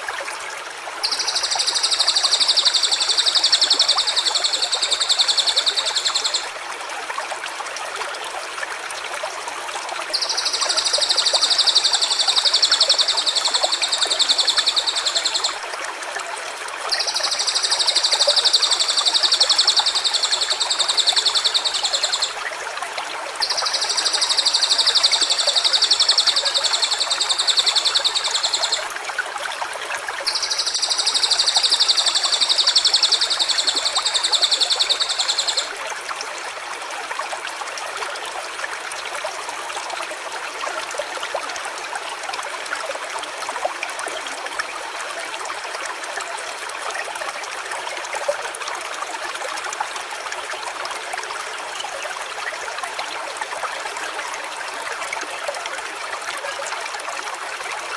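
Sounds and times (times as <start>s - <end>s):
stream running: 0.0s - 57.9s.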